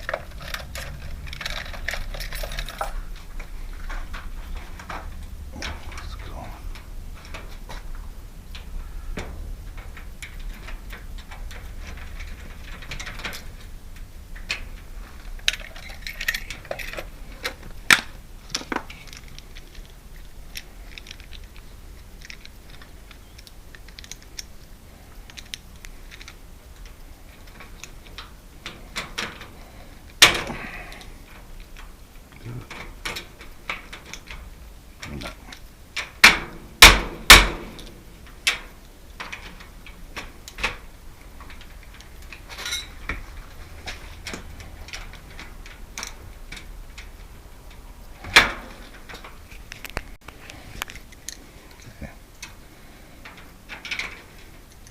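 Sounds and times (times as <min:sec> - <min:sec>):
metal lock parts clicking: 0:00.0 - 0:07.9, 0:08.5 - 0:52.6.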